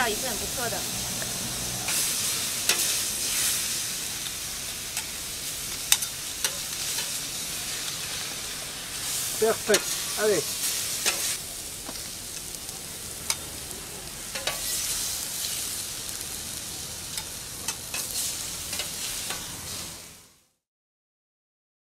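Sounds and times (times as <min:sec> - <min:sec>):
vegetables sizzling on steel plate: 0:00.0 - 0:20.6.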